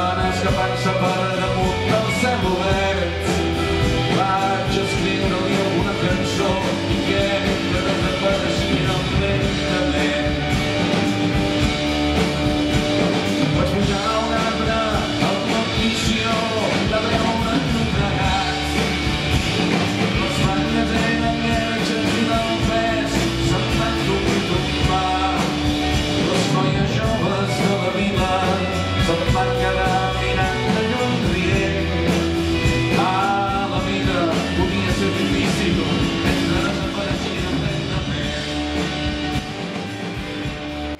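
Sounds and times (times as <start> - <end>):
person singing: 0.0 - 11.4, 13.2 - 39.4
bass: 0.0 - 40.9
drums: 0.0 - 40.9
electric guitars: 0.0 - 40.9.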